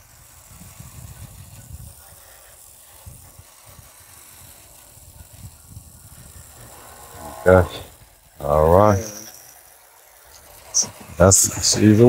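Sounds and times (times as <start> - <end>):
mechanical rattling and clicking: 0.0 - 12.0.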